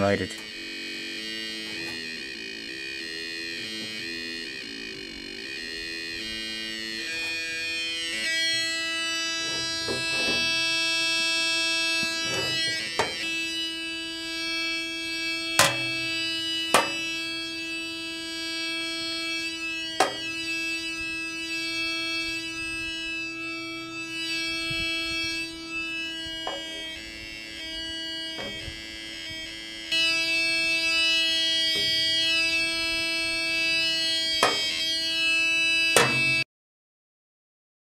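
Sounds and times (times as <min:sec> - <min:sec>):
buzzy oscillator tone: 0:00.0 - 0:36.5.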